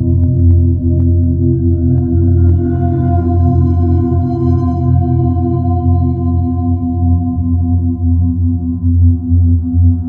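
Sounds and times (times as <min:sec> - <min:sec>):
sustained low drone tones: 0:00.0 - 0:10.0.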